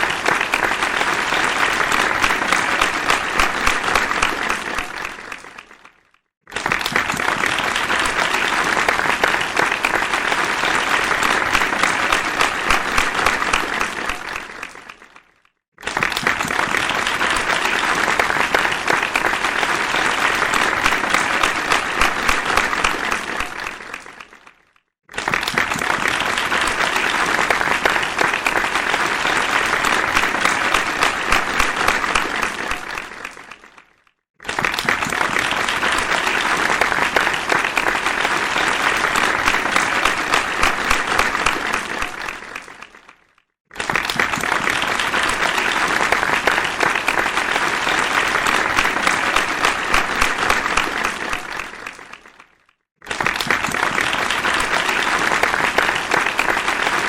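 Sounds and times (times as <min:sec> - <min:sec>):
crowd applause: 0:00.0 - 0:57.0.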